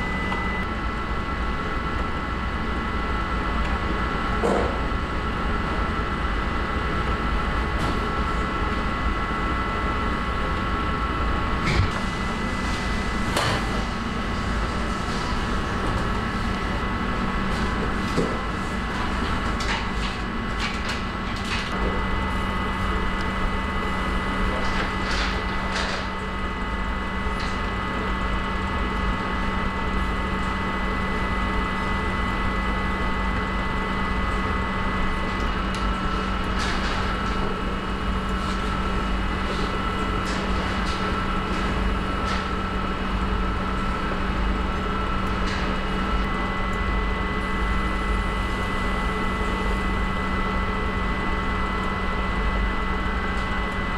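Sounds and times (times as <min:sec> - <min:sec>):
machinery humming and whining: 0:00.0 - 0:53.9.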